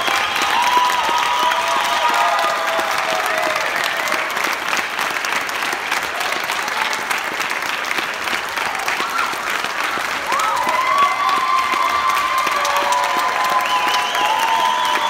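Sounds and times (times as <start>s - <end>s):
cheering shouts: 0.0s - 4.9s, 6.0s - 7.4s, 8.4s - 15.0s
audience applauding: 0.0s - 15.0s.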